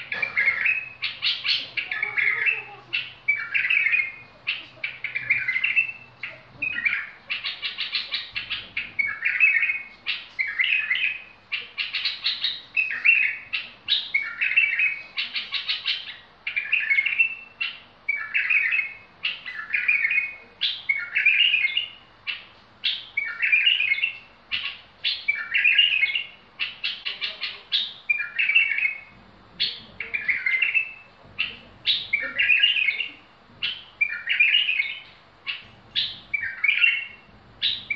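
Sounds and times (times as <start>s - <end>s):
bird singing short phrases: 0.0s - 37.9s.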